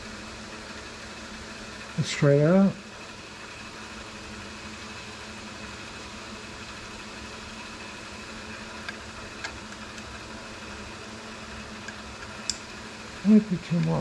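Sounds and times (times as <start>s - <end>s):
shop machinery motor hum: 0.0s - 14.0s.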